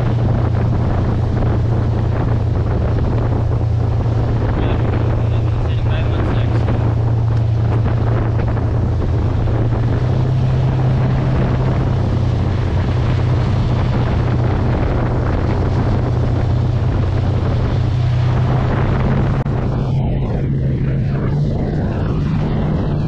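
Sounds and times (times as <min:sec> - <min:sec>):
boat engine droning: 0:00.0 - 0:23.0
wake rushing along hull: 0:00.0 - 0:23.0
wind buffeting microphone: 0:00.0 - 0:23.0.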